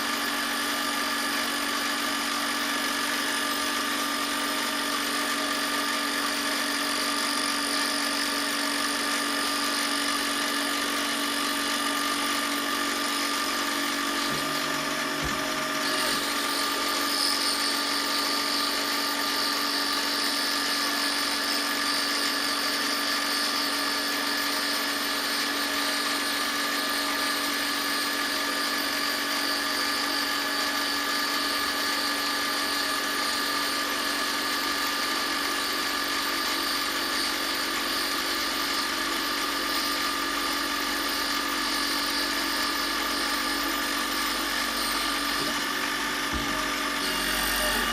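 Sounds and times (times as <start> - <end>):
power tool motor whining: 0.0 - 47.9.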